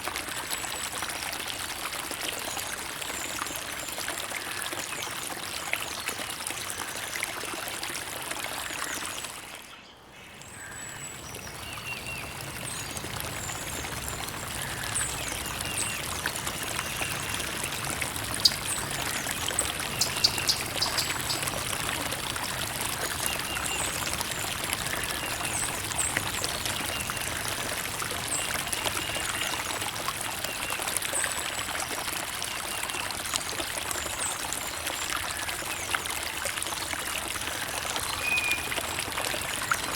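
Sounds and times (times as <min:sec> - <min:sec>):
creek water babbling over stones: 0:00.0 - 0:39.9
small water splashes: 0:00.0 - 0:39.9.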